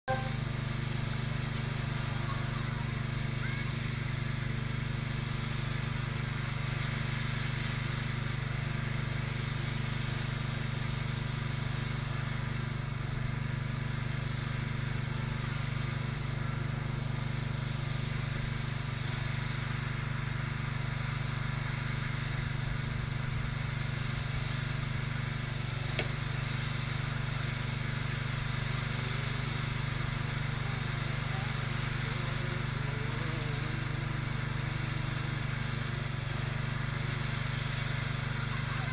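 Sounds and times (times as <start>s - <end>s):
small tractor engine running: 0.1s - 38.9s.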